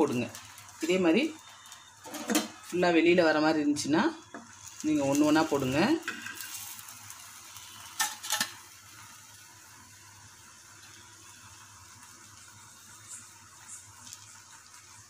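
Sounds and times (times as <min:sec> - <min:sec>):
faint frying sizzle: 0:00.0 - 0:15.0.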